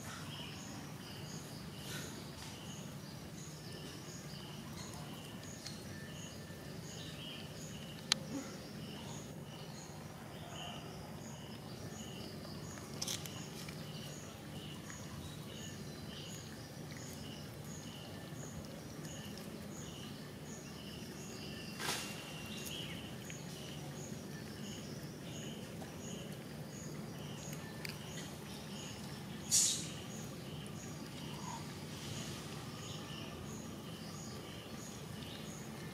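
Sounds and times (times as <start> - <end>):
insect chirping: 0.0 - 35.9.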